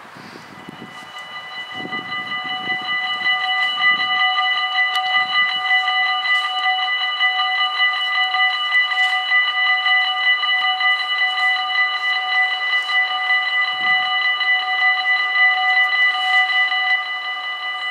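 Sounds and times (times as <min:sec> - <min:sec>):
level crossing warning bells: 0:00.0 - 0:17.9.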